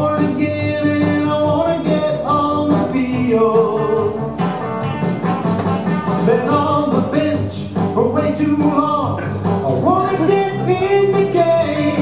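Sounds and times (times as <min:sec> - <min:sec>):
song with singing and beat: 0:00.0 - 0:12.0.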